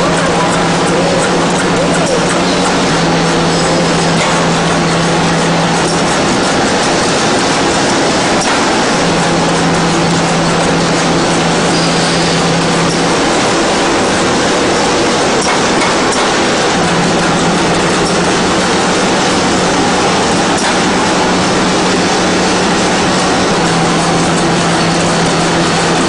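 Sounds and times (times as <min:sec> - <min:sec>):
machine clattering: 0:00.0 - 0:26.0.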